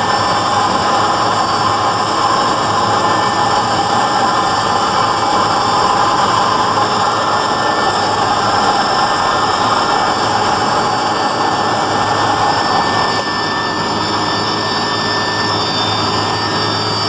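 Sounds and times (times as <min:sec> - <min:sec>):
helicopter engine noise with whine: 0:00.0 - 0:17.0.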